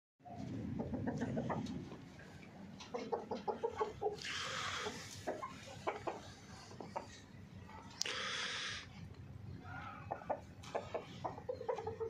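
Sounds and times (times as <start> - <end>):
chickens clucking: 0.2 - 12.0.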